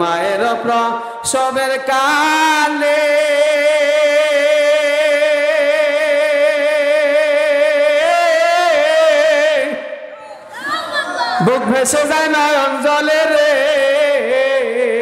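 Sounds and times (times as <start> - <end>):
man singing: 0.0 - 10.1, 11.4 - 15.0.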